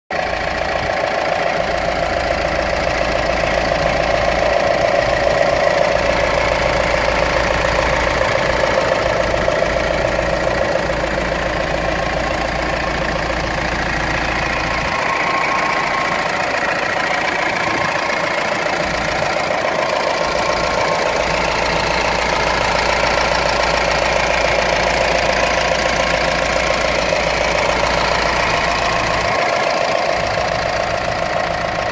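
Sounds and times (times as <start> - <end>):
diesel engine idling: 0.1 - 31.9.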